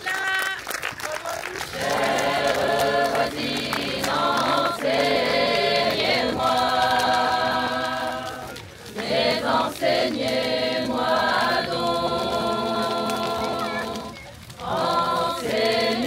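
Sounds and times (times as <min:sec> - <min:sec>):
group of voices singing: 0:01.7 - 0:16.0.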